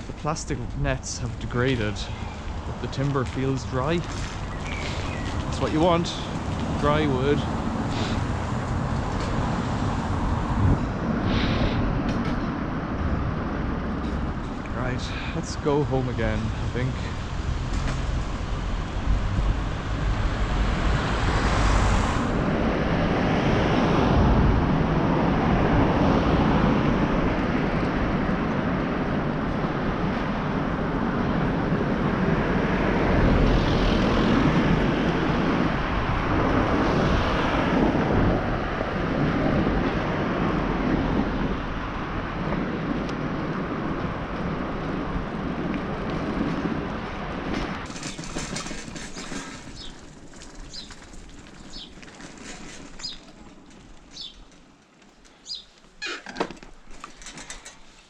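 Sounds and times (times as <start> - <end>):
wind buffeting microphone: 0.0 - 55.8
bike tyre road noise: 0.0 - 58.0.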